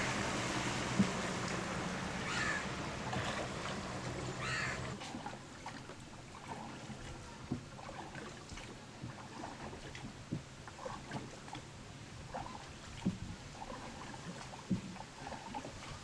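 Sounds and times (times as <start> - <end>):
boat engine hum: 0.0 - 16.0
small splashes and knocks: 0.0 - 16.0
water lapping: 0.0 - 16.0.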